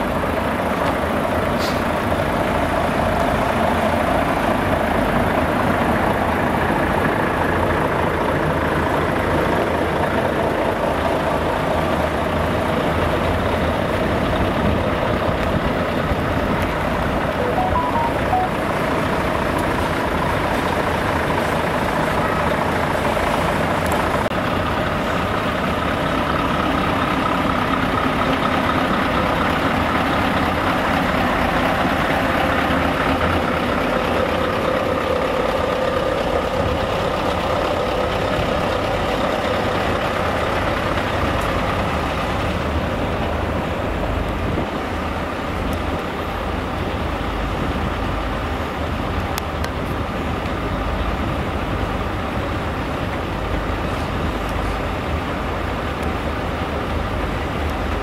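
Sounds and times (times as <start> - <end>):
lorry engine running: 0.0 - 58.0.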